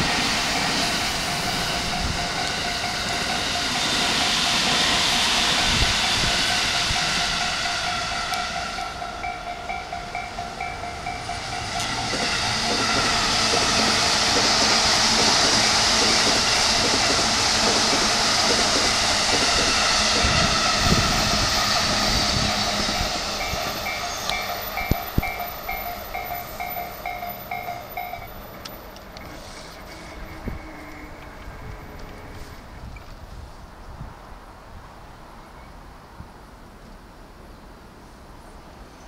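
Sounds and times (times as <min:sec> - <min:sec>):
wheels clacking over rails: 0:00.0 - 0:32.8
electric train passing: 0:00.0 - 0:39.0.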